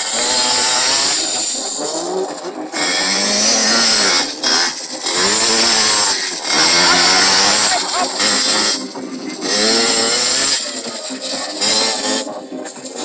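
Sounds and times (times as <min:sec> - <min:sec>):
two-stroke motocross bikes revving: 0:00.0 - 0:13.0.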